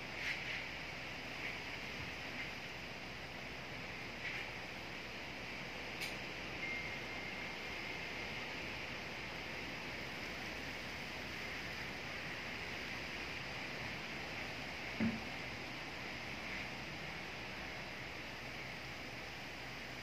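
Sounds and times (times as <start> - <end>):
wind rustling tree leaves: 0.0 - 20.0.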